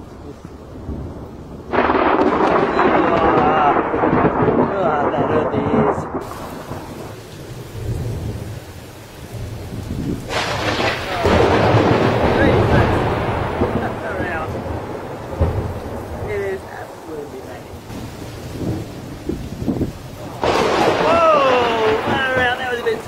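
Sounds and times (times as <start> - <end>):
falling rain: 0.0 - 23.0
loud thunder: 0.6 - 23.0.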